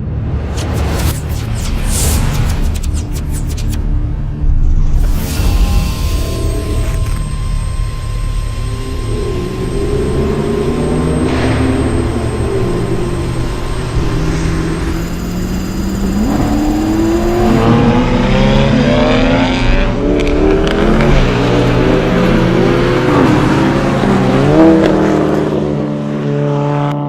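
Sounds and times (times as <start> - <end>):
car engine revving: 4.9 - 26.9.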